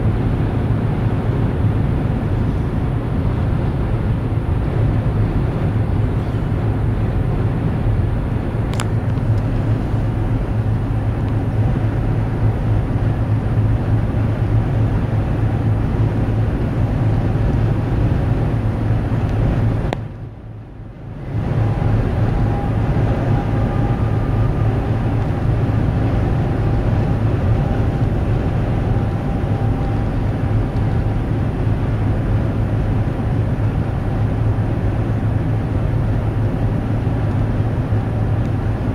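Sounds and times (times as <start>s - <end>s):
motor vehicles rumbling: 0.0s - 38.9s.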